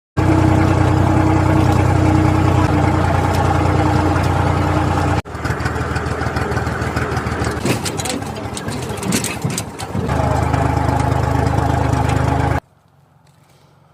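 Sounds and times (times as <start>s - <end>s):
engine humming steadily: 0.2s - 13.9s.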